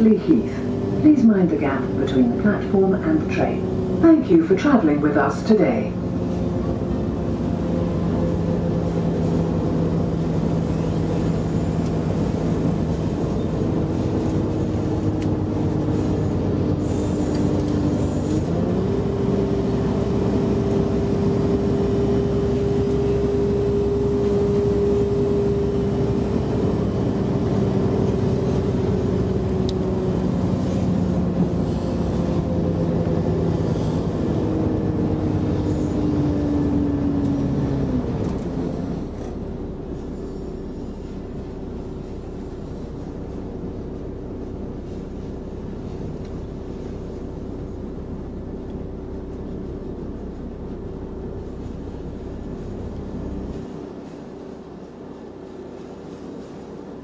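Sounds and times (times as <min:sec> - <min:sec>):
diesel engine drone: 0:00.0 - 0:57.0
wheel and rail rumble: 0:00.0 - 0:57.0.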